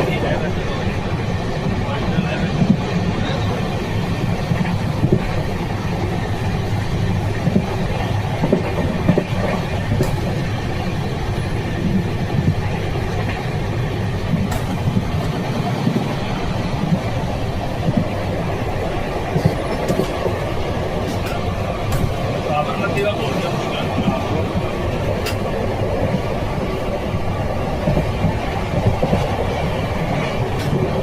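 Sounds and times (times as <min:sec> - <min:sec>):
sharp clicks of train wheels: 0:00.0 - 0:31.0
train rumbling on track: 0:00.0 - 0:31.0.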